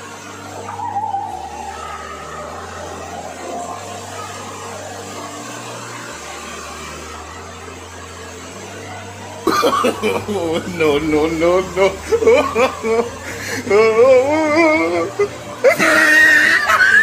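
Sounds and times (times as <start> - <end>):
faint background music: 0.0 - 17.0
pool water jets rushing: 0.0 - 17.0
voices and laughter: 0.0 - 17.0.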